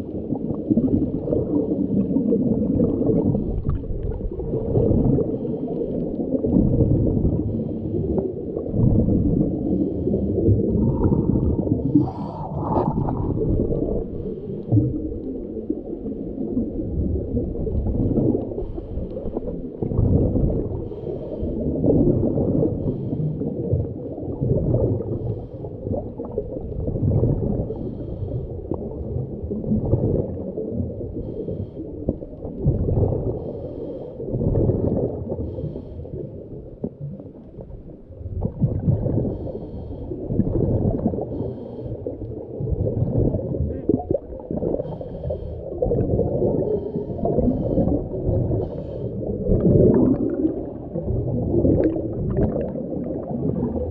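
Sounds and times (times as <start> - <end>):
exhaled bubbles rumbling: 0.0 - 53.9
diver breathing underwater: 1.0 - 37.0, 38.5 - 53.2.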